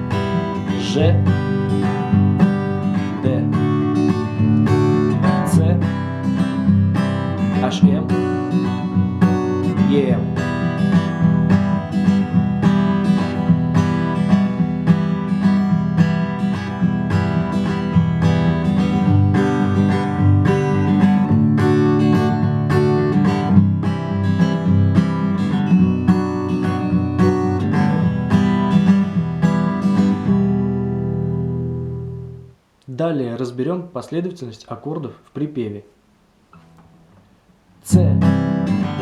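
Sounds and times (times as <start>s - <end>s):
acoustic guitar strumming: 0.0s - 32.6s, 36.0s - 39.0s.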